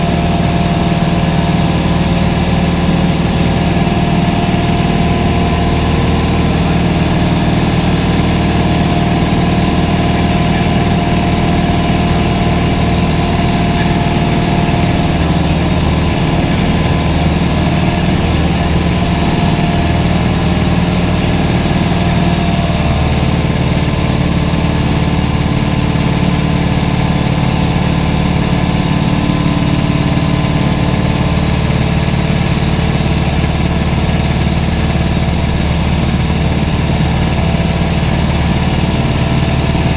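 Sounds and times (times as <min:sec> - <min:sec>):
propeller aircraft engine droning: 0:00.0 - 0:39.9.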